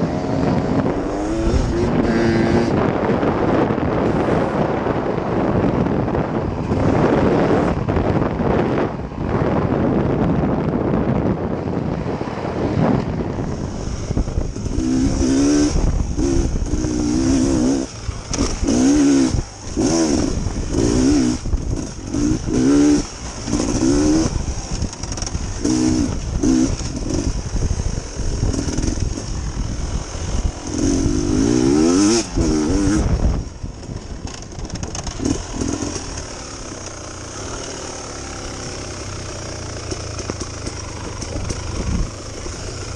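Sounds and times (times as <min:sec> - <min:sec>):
dirt bike engine revving: 0:00.0 - 0:08.8, 0:12.4 - 0:42.9
wind buffeting microphone: 0:00.0 - 0:42.9.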